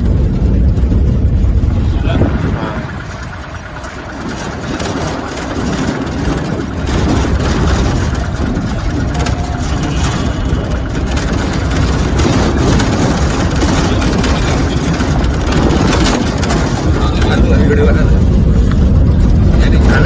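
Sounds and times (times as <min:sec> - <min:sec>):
rattles and bumps: 0:00.0 - 0:20.0
road noise: 0:00.0 - 0:20.0
truck engine running: 0:00.0 - 0:20.0.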